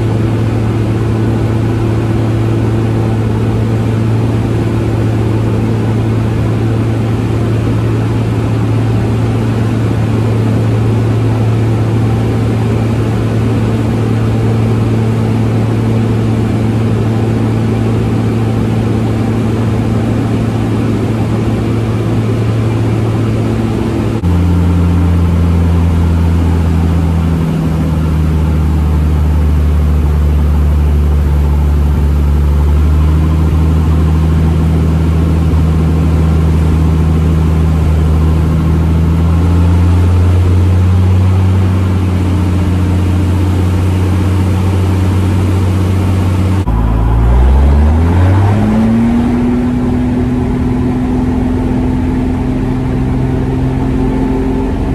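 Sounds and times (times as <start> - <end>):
propeller aircraft engine droning: 0.0 - 54.9.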